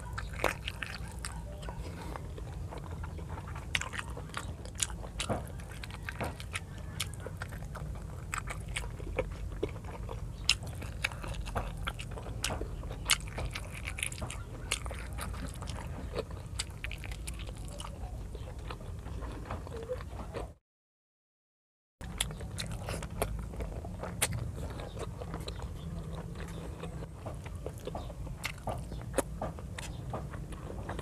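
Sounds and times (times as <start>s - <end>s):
chewing and biting: 0.0s - 20.6s, 22.0s - 31.0s.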